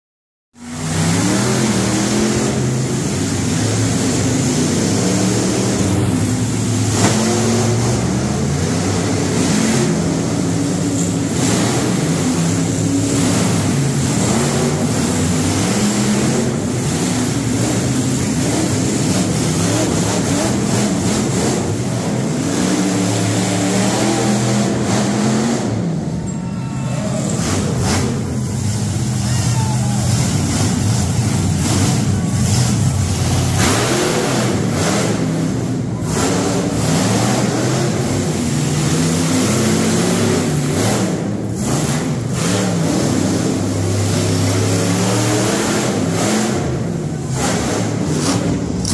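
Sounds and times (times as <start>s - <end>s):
monster truck engines revving: 0.6s - 48.9s.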